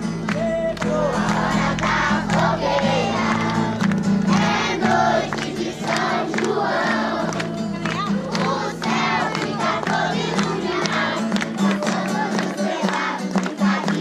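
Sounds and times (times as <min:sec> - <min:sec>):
low held notes: 0:00.0 - 0:12.4
group of people singing: 0:00.7 - 0:14.0.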